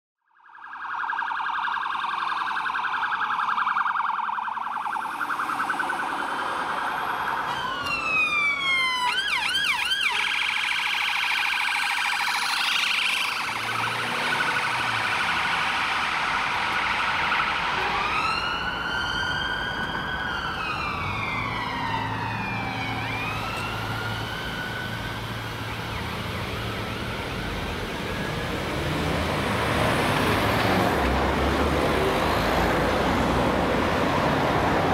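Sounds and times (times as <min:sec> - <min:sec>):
police car sirens: 0:00.3 - 0:34.9
engine and traffic noise: 0:01.2 - 0:34.9.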